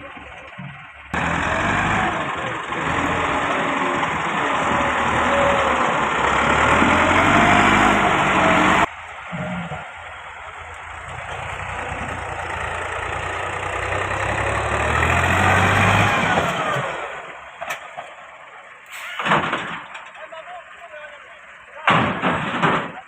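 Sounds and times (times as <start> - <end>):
tractor diesel engine running: 0.0 - 22.5.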